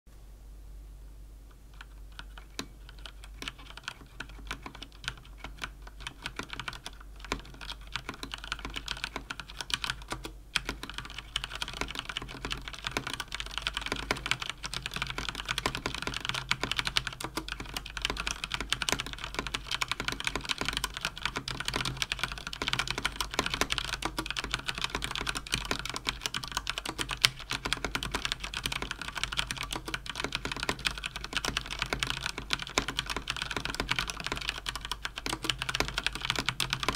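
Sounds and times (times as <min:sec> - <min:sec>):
mechanical keyboard typing: 0:01.7 - 0:36.9.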